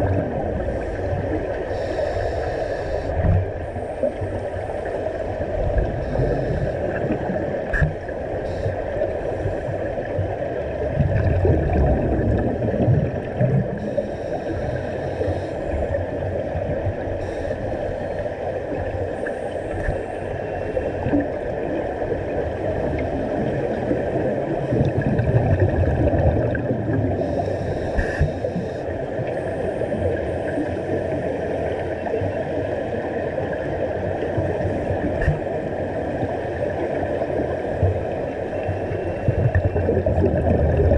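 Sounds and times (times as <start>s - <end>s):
low bubble gurgling: 0.0s - 2.1s, 3.1s - 40.9s
underwater rushing hum: 0.0s - 40.9s.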